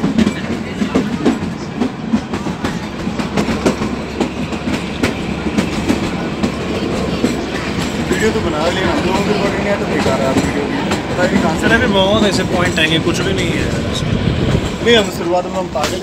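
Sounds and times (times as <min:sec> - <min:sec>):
train carriage rumble: 0:00.0 - 0:16.0
wheels clattering over rail joints: 0:00.0 - 0:16.0.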